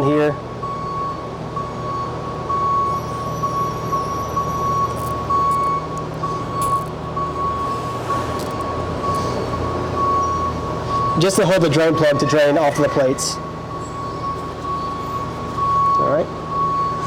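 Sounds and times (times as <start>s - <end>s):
electronic warning beeping: 0.6s - 17.0s.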